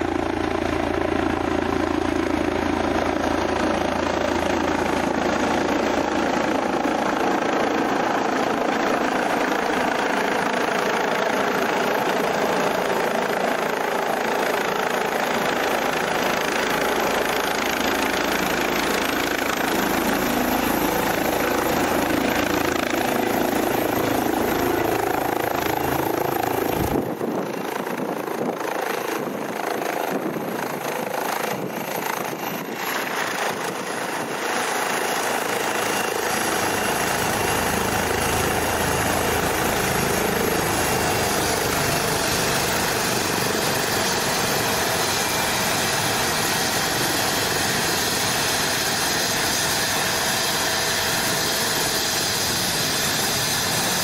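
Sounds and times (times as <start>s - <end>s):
helicopter rotor and turbines: 0.0s - 54.0s.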